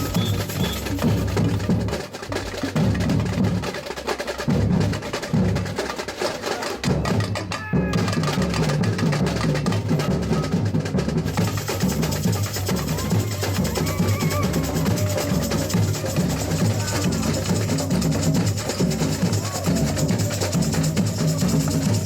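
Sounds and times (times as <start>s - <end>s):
fast snare drum: 0.0s - 22.0s
wood-block strokes: 0.0s - 22.0s.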